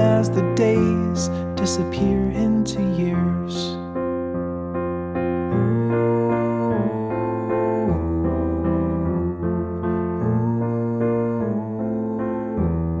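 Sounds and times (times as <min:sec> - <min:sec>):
electric piano chords: 0:00.0 - 0:13.0.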